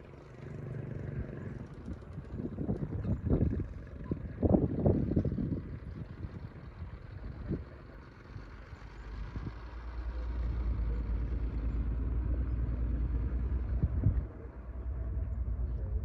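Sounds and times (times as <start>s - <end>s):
diesel machinery engine rumble: 0.0s - 16.0s.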